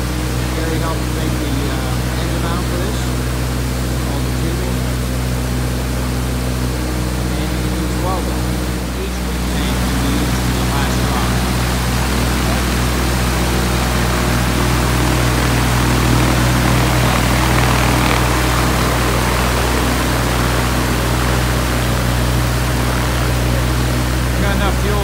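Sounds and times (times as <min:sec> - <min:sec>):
aircraft engine droning: 0:00.0 - 0:25.0.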